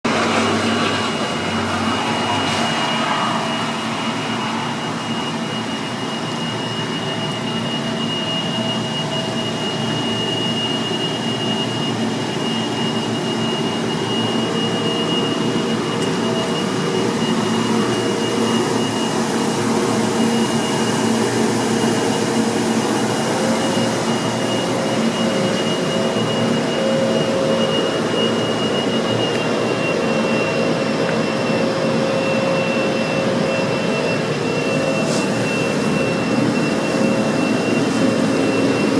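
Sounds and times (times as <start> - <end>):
car wash machine drone: 0.0 - 38.9
high mechanical whine: 0.0 - 38.9.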